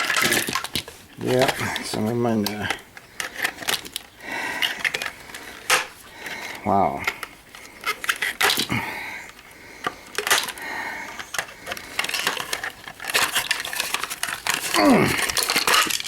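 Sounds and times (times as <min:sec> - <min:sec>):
metal and plastic parts clattering: 0:00.0 - 0:16.0.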